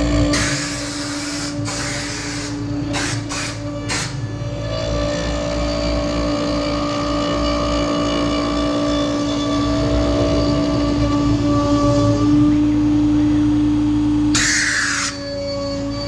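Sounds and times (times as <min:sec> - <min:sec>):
router bit cutting wood: 0:00.0 - 0:16.0
router spindle high-pitched whine: 0:00.0 - 0:16.0.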